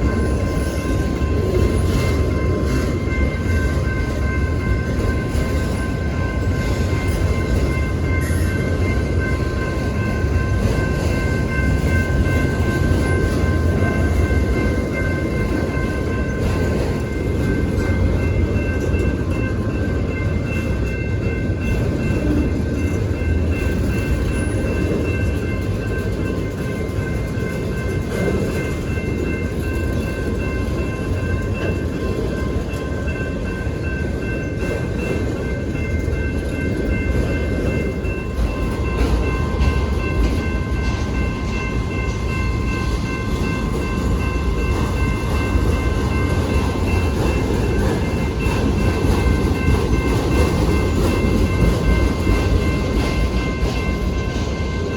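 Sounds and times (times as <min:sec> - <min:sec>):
freight train rumbling on track: 0:00.0 - 0:54.9.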